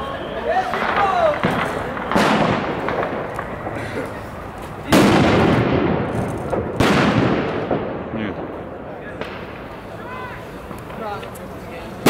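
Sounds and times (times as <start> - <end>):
firework bangs echoing: 0.0 - 12.0.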